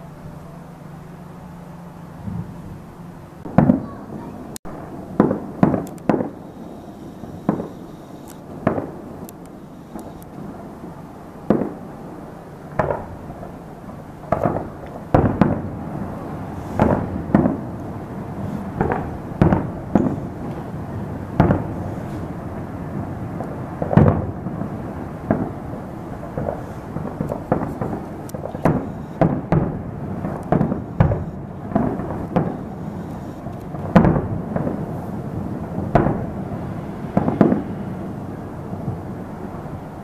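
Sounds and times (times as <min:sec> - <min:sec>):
distant fireworks bursting: 0:00.0 - 0:40.0.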